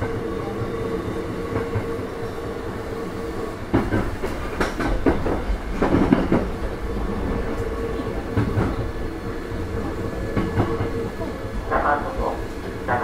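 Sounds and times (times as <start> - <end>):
train rumble with motor tone: 0.0 - 13.0.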